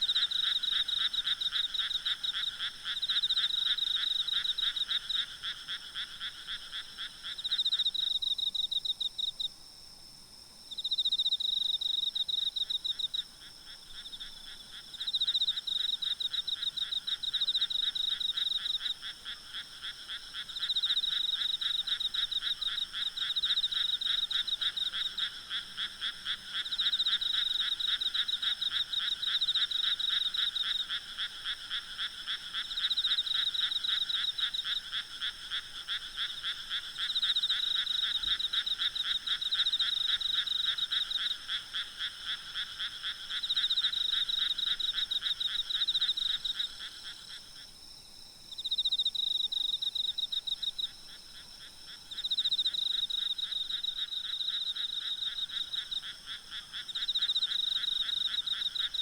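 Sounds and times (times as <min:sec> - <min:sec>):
frogs croaking: 0:00.0 - 0:09.5, 0:10.7 - 0:59.0
insects droning: 0:00.0 - 0:59.0.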